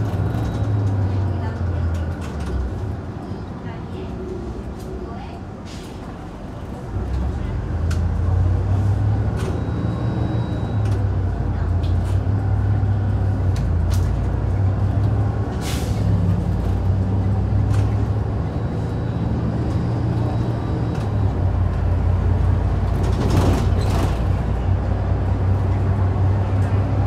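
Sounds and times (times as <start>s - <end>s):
bus engine drone: 0.0s - 27.0s
road noise: 0.0s - 27.0s.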